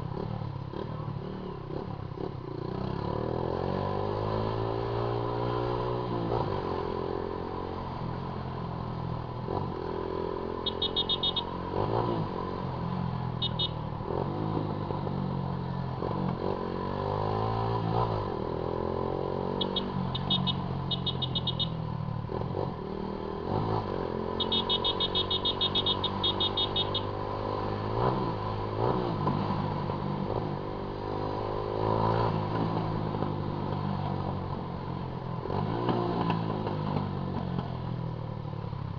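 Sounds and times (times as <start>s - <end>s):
motorcycle revving: 0.0s - 38.9s.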